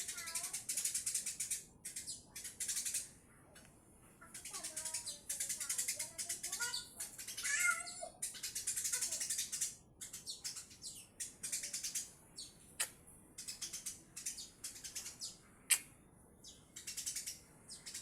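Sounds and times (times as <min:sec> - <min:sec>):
sparrow chirping: 0:00.0 - 0:18.0.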